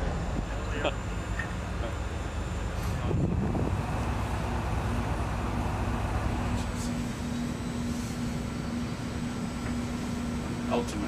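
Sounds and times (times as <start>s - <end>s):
mechanical rumble: 0.0s - 11.0s.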